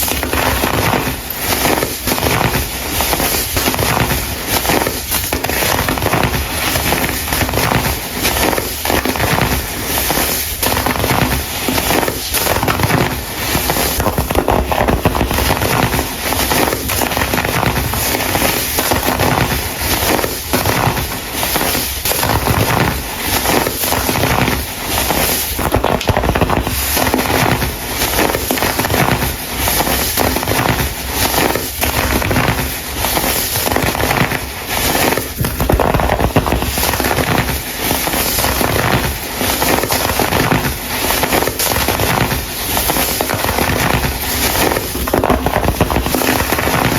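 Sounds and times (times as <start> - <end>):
baking soda chunks crunching: 0.0 - 46.9.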